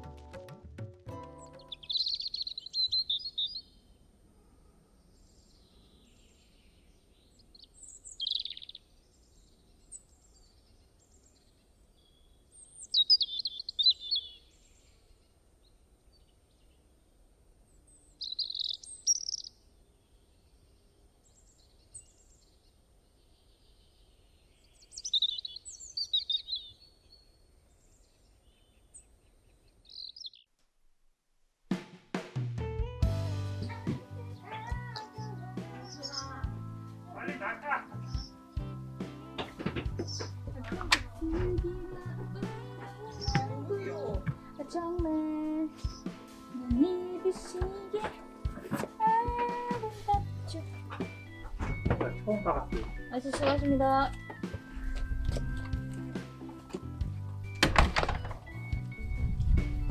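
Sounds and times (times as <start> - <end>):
songbird singing: 1.2 - 30.6, 33.1 - 59.9.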